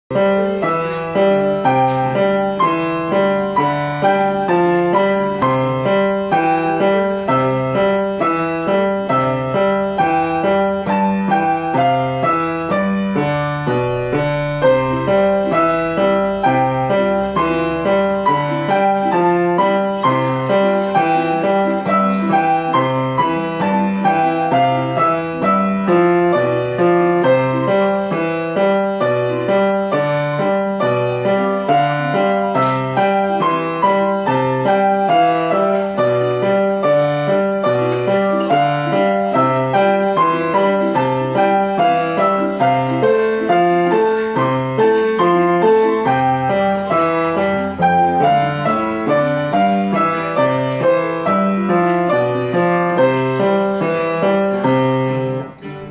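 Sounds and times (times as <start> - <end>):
solo piano piece: 0.0 - 55.9.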